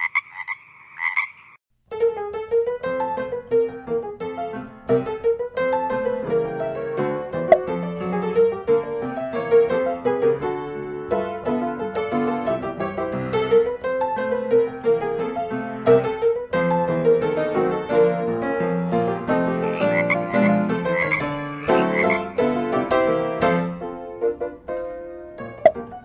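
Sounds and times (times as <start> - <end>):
piano music: 1.9 - 26.0.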